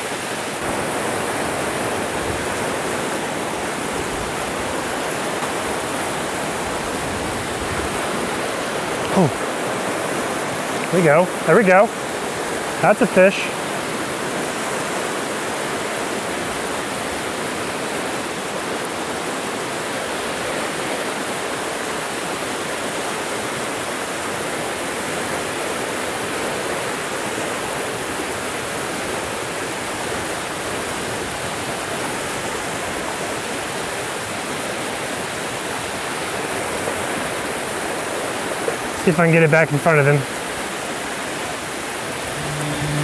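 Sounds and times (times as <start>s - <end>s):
river rushing over rapids: 0.0s - 39.0s, 39.7s - 43.0s.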